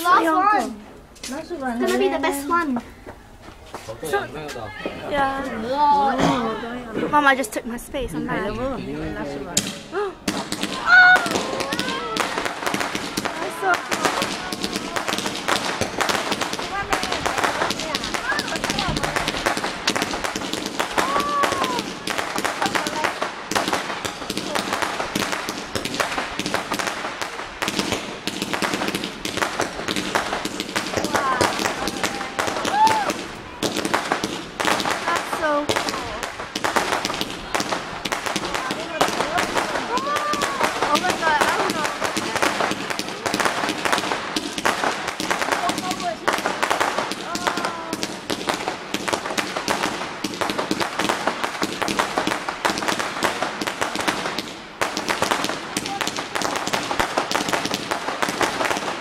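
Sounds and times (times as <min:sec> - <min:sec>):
fireworks bangs and crackles: 0:00.0 - 0:08.5, 0:09.1 - 0:59.0.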